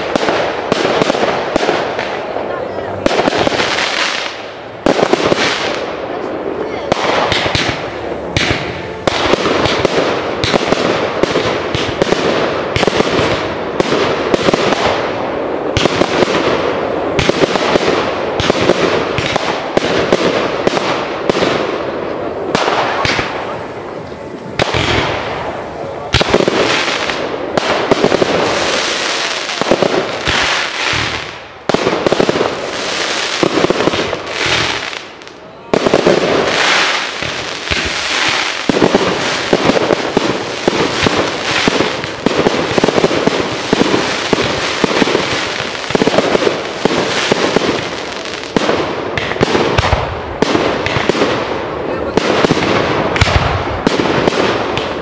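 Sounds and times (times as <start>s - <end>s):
fireworks crackling: 0.0s - 55.0s
fireworks launching and bursting: 0.0s - 55.0s.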